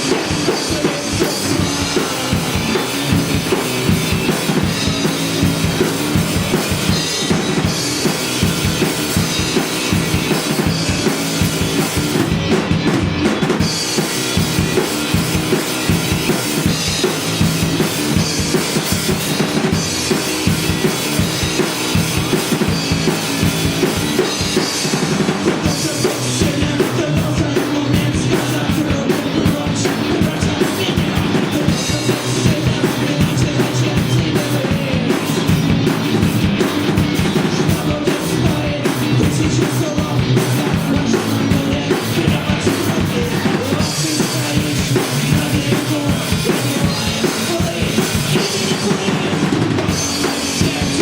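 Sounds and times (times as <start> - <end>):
drum kit beat: 0.0 - 51.0
live rock band playing: 0.0 - 51.0.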